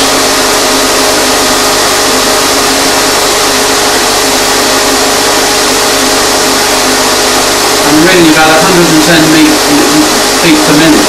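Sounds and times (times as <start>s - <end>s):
impeller rushing air with hum: 0.0s - 11.0s.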